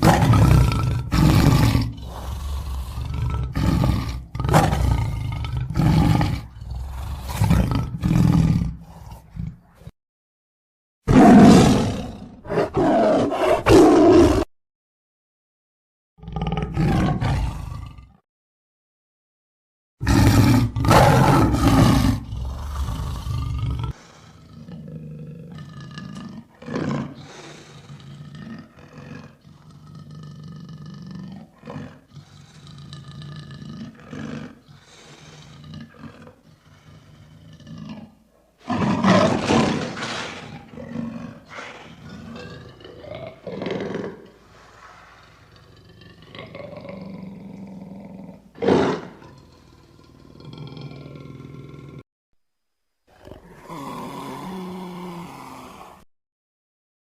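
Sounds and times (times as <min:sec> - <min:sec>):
lion roaring: 0:00.0 - 0:09.9, 0:11.1 - 0:14.5, 0:16.2 - 0:18.2, 0:20.0 - 0:52.0, 0:53.1 - 0:56.1.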